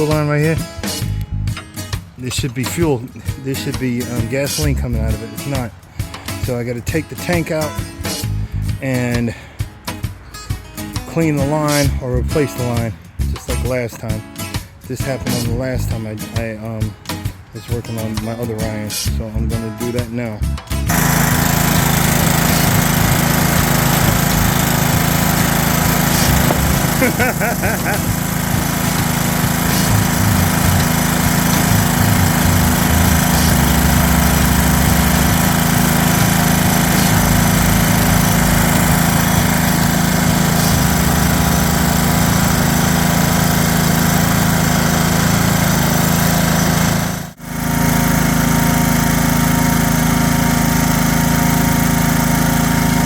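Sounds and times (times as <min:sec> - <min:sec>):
small gasoline engine running: 0:00.0 - 0:53.0.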